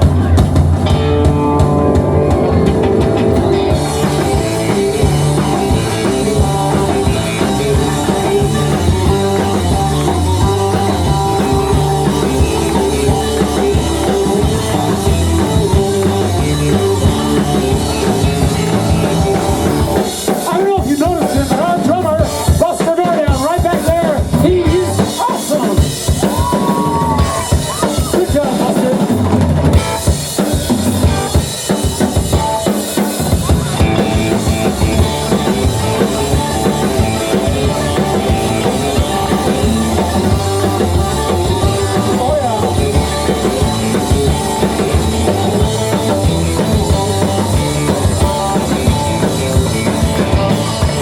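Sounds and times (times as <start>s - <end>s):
bass drum and snare: 0.0s - 51.0s
bass line: 0.0s - 51.0s
live rock band playing: 0.0s - 51.0s.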